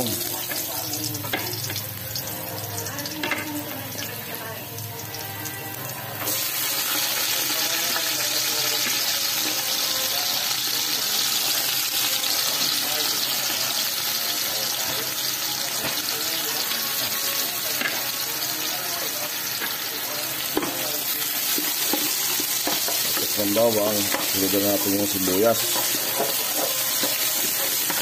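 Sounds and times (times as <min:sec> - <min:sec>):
garlic sizzling in hot oil: 0:00.0 - 0:28.0.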